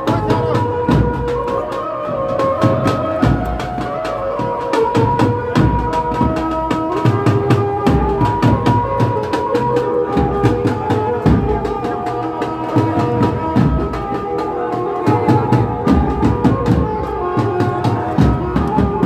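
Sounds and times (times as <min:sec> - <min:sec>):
drums beating fast rhythm: 0:00.0 - 0:19.0.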